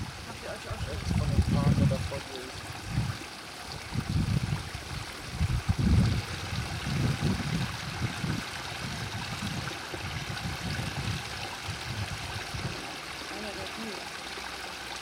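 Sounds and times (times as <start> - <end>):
fountain water trickling and splashing: 0.0 - 15.0.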